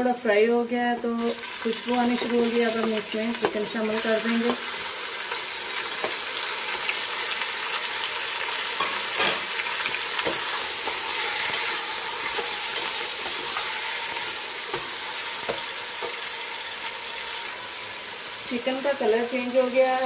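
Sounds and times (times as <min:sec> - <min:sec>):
chicken sizzling in hot oil: 0:01.2 - 0:20.0.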